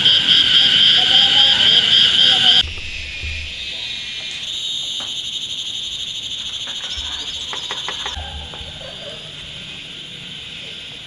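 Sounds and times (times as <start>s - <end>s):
insects trilling: 0.0s - 11.0s
pulsing insect trill: 0.0s - 11.0s.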